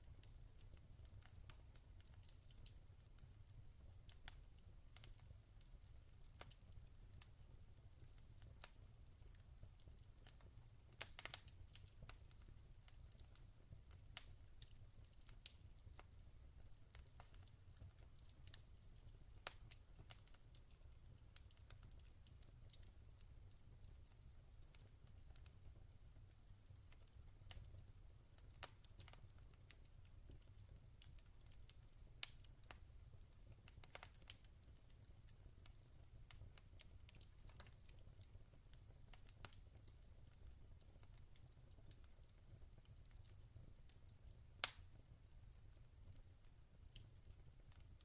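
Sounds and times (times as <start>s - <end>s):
log fire crackling and popping: 0.0s - 48.0s.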